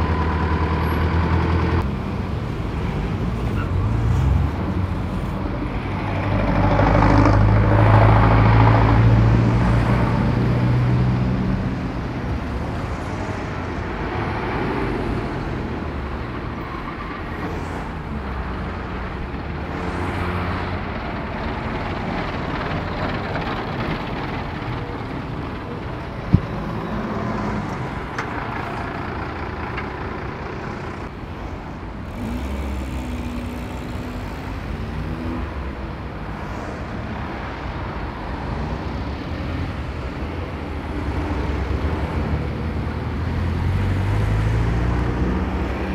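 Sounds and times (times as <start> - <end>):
heavy vehicle engine: 0.0 - 45.9
road traffic rumble: 0.0 - 45.9.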